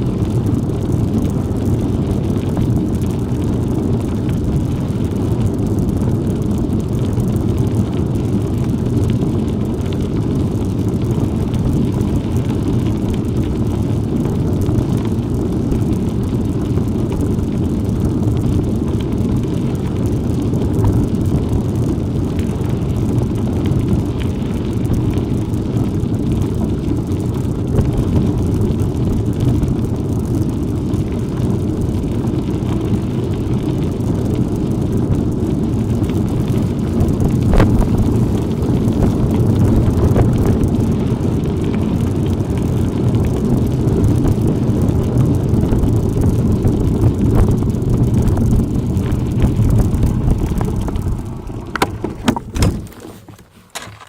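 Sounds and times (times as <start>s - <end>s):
bicycle tyres on rough ground: 0.0s - 54.0s
wind buffeting microphone: 0.0s - 54.0s.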